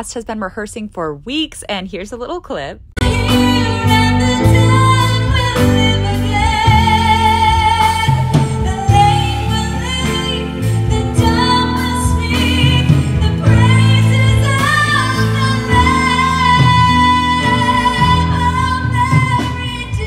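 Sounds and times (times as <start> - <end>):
live band playing low chords: 3.0 - 20.0
woman singing with vibrato: 3.0 - 20.0.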